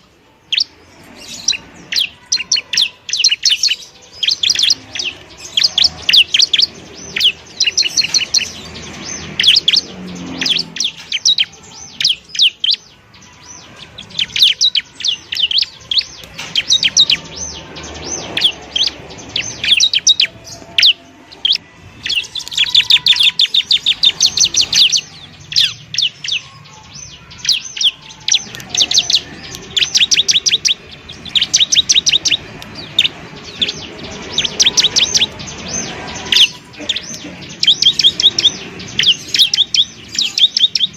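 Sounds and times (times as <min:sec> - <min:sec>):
bird singing high chirps: 0:00.0 - 0:40.9.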